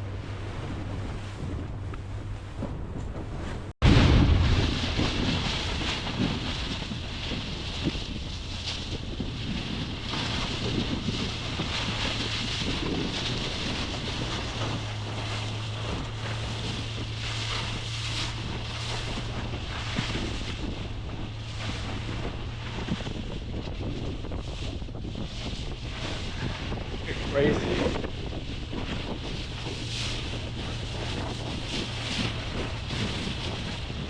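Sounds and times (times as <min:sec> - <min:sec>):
water rushing: 0:00.0 - 0:24.4, 0:25.7 - 0:34.0
boat engine drone: 0:00.0 - 0:34.0
wind buffeting microphone: 0:00.0 - 0:34.0.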